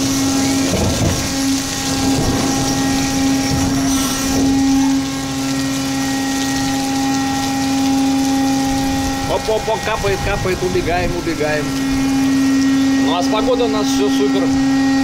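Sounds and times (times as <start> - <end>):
hydraulic crane hum and whine: 0.0 - 15.0
lower hum: 0.0 - 15.0
water noise: 0.0 - 15.0
wind: 0.0 - 15.0.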